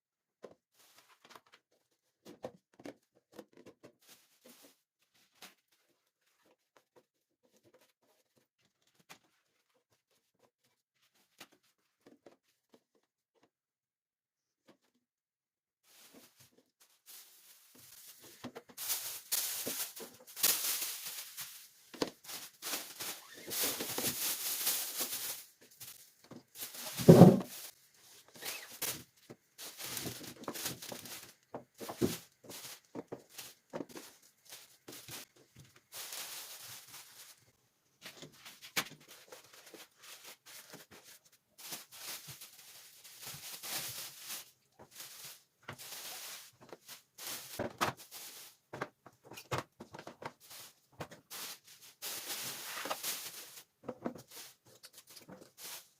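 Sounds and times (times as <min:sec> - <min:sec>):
rustling and crinkling: 0:00.4 - 0:13.5, 0:15.8 - 0:55.9.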